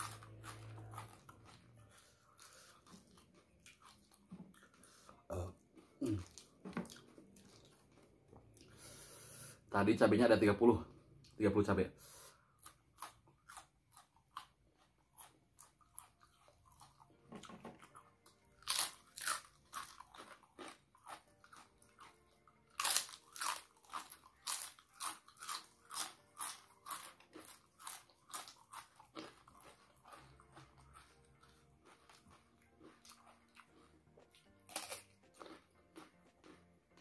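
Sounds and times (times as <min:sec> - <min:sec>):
crunchy chewing: 0:00.0 - 0:08.9, 0:12.5 - 0:37.0
quiet chewing: 0:00.0 - 0:09.0, 0:12.5 - 0:37.0.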